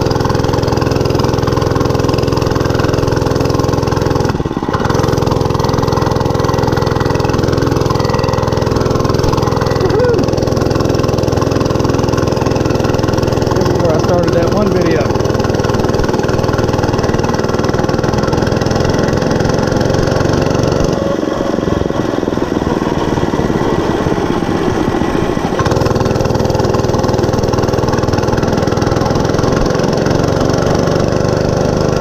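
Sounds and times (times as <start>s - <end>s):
mini bike engine running: 0.0s - 32.0s.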